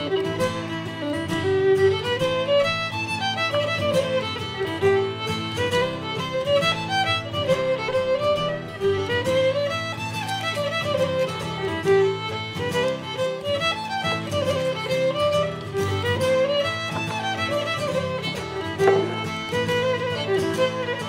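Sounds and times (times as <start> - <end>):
fiddle melody: 0.0 - 21.0
plucked strings: 0.0 - 21.0.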